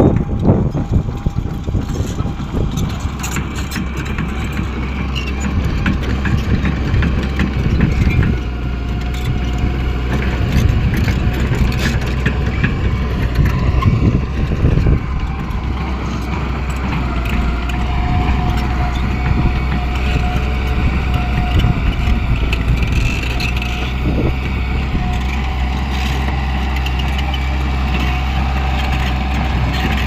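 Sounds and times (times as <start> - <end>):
heavy diesel engine under load: 0.0 - 30.0.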